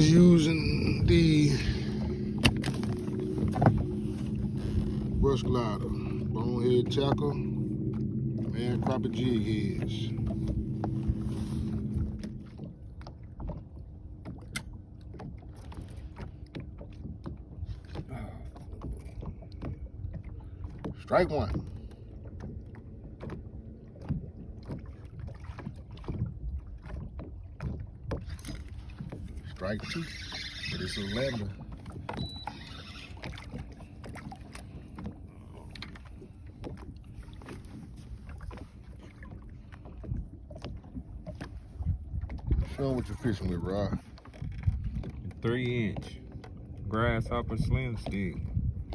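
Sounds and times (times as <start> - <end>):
boat low rumble: 0.0 - 48.9.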